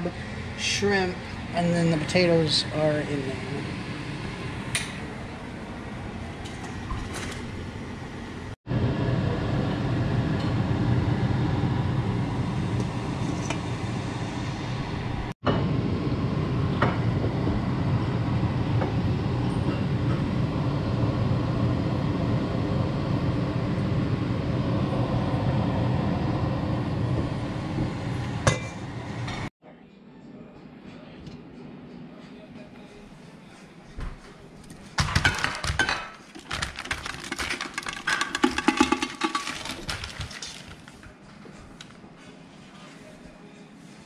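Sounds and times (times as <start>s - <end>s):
pot at a rolling boil: 0.0s - 29.5s, 35.0s - 43.1s.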